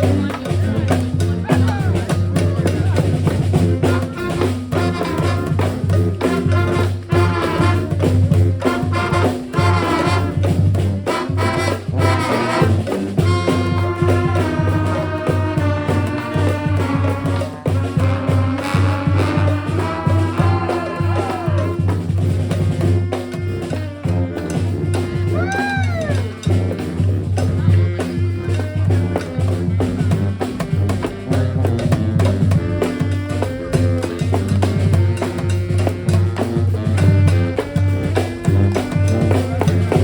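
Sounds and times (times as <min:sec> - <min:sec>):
bass drum beat: 0:00.0 - 0:40.0
brass band horns playing: 0:00.0 - 0:40.0.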